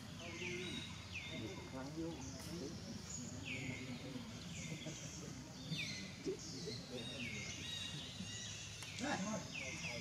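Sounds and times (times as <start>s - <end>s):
low background murmur: 0.0s - 10.0s.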